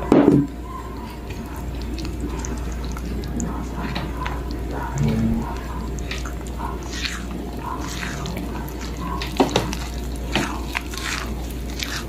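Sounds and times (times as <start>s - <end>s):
spatula swishing wet batter: 1.0s - 12.0s.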